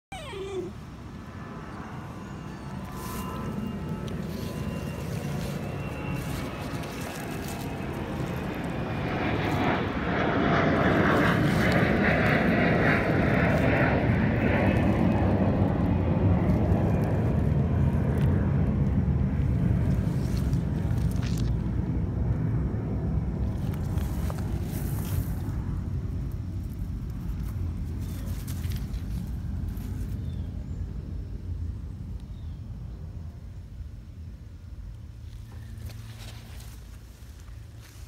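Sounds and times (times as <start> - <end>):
engine drone: 0.2 - 38.0.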